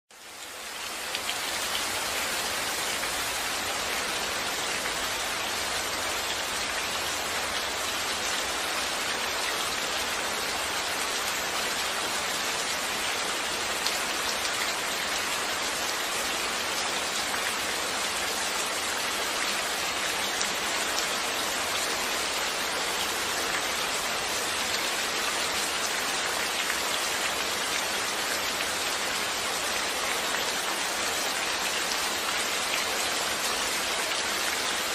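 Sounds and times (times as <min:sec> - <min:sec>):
steady rainfall: 0:00.1 - 0:34.9.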